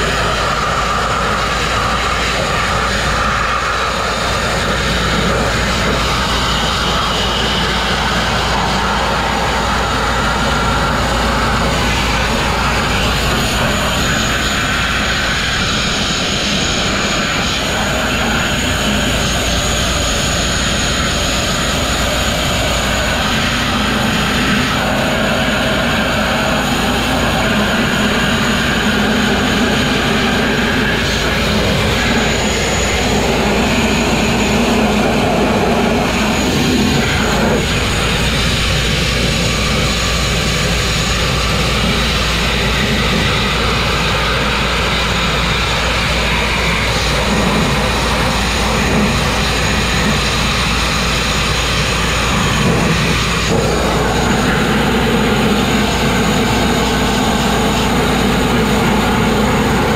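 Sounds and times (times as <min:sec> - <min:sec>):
grit blasting roar and hiss: 0:00.0 - 0:59.9.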